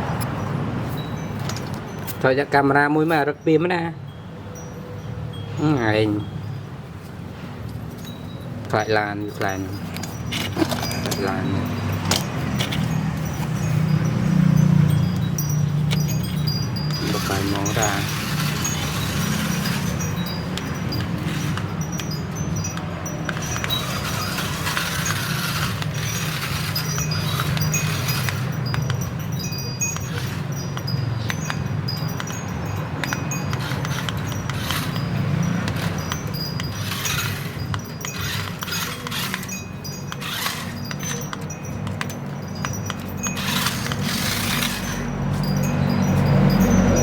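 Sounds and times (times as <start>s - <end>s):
high-pitched chime tinkling: 0.0s - 6.8s, 7.6s - 47.0s.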